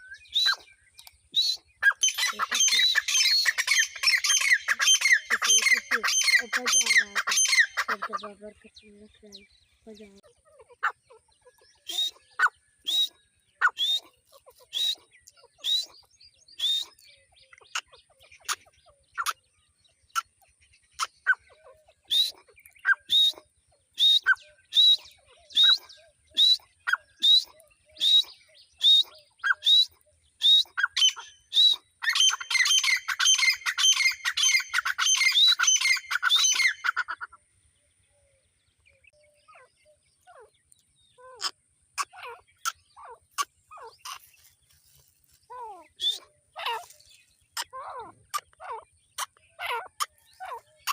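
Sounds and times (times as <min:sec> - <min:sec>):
bird shrill sharp calls: 0:00.0 - 0:08.4, 0:10.6 - 0:19.4, 0:20.1 - 0:37.3, 0:41.2 - 0:50.9.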